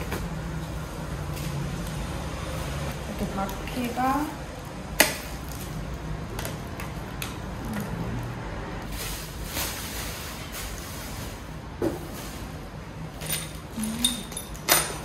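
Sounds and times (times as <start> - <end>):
plastic wrap rustling and crinkling: 0.0 - 12.8.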